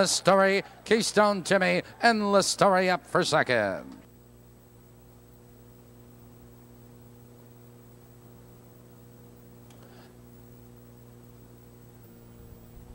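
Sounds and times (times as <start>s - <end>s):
electrical mains hum: 0.0s - 12.9s
faint recording hiss: 0.0s - 12.9s.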